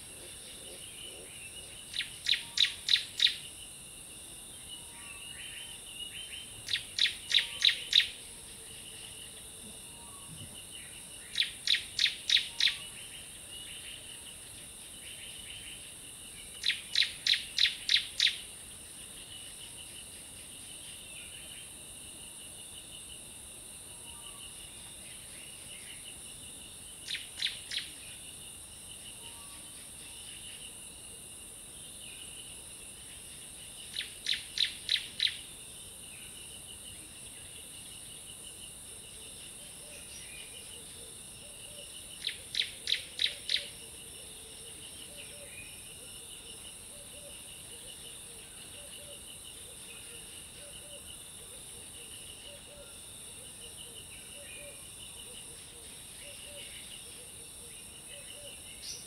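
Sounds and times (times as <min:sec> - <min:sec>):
insect buzz: 0:00.0 - 0:59.0.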